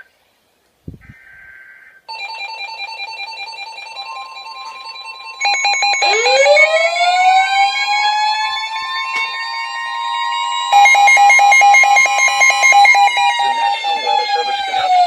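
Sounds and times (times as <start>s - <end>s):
rapid pulsing beeps: 2.1s - 15.0s
siren-like wailing tone: 2.1s - 15.0s
steady high tone: 2.1s - 15.0s.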